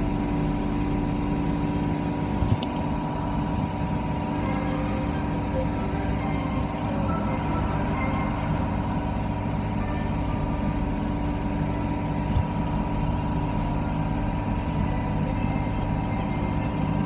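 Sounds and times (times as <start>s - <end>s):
car wash machinery droning: 0.0s - 17.0s.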